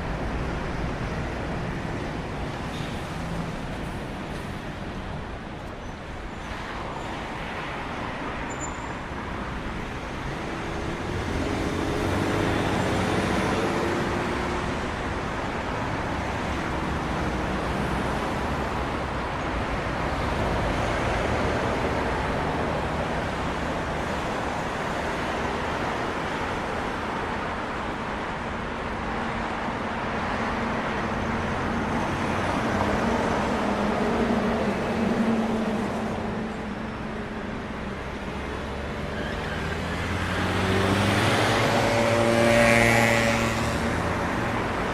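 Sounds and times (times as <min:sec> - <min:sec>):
road traffic rush: 0:00.0 - 0:44.9
vehicles passing: 0:00.0 - 0:44.9.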